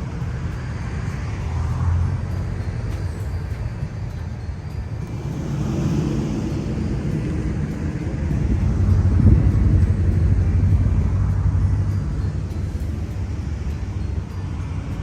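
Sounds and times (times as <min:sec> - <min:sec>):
cars passing with engine rumble: 0:00.0 - 0:15.0.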